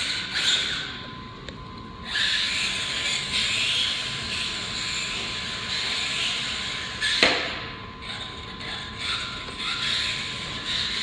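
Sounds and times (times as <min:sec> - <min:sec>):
rc car motor whine: 0:00.0 - 0:01.4, 0:02.0 - 0:11.0.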